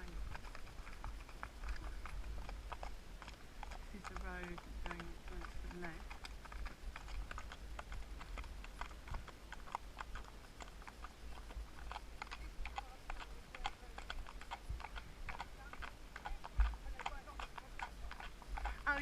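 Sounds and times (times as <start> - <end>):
horse hooves clip-clopping on road: 0.0 - 19.0.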